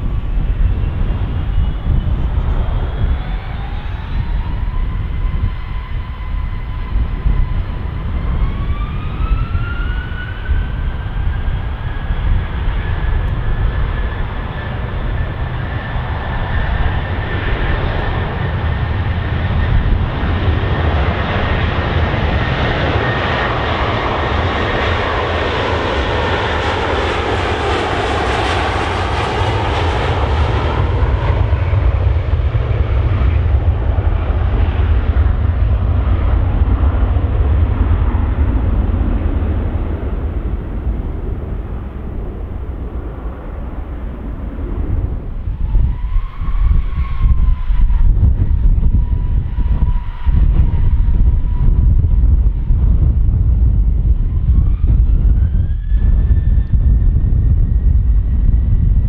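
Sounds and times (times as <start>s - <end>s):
jet engine roar: 0.0s - 59.0s
low rumble: 10.4s - 59.0s.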